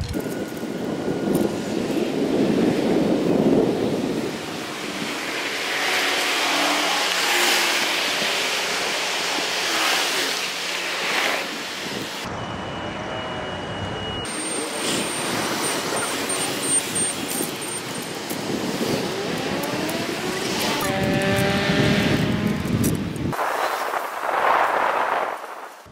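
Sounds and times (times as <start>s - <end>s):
wind noise: 0.0s - 6.5s, 11.5s - 25.9s
vehicles passing: 0.0s - 23.4s
street traffic: 0.0s - 23.5s.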